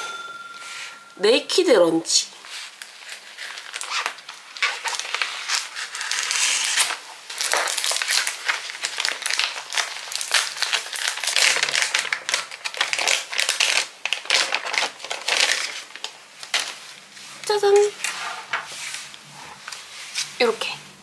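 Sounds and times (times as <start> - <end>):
plastic packaging crinkling: 2.4 - 20.6.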